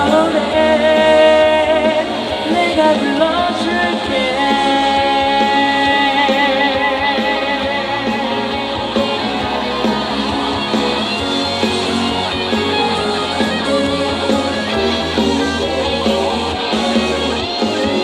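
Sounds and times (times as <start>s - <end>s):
electric guitar: 0.0s - 18.0s
live band playing pop: 0.0s - 18.0s.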